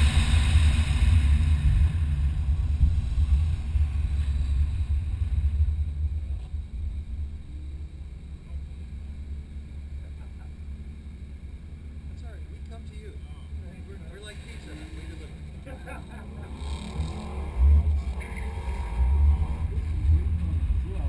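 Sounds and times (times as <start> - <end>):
car engine: 0.0 - 21.0
low rumble: 0.0 - 21.0.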